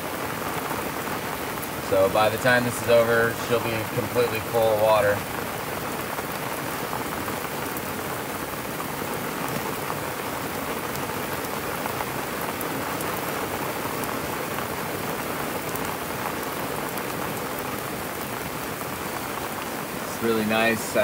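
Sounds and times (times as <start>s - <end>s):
heavy rain on sea surface: 0.0s - 21.0s
close raindrop ticks: 0.3s - 21.0s.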